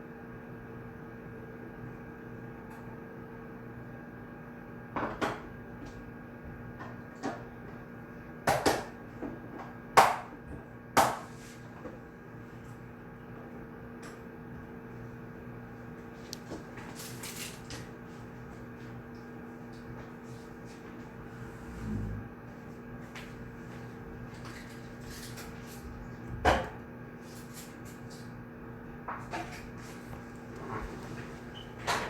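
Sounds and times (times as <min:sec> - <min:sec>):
room hum: 0:00.0 - 0:32.0.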